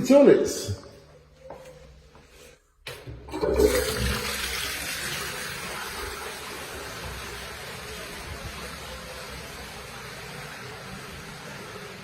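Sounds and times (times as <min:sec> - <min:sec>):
toilet flushing: 0:00.9 - 0:12.0.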